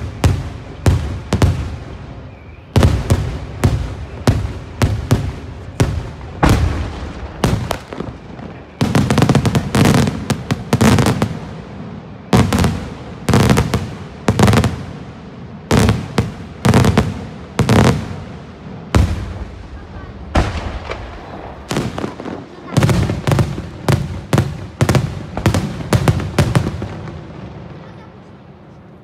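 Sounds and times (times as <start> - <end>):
fireworks bursting with loud bangs: 0.0 - 29.0.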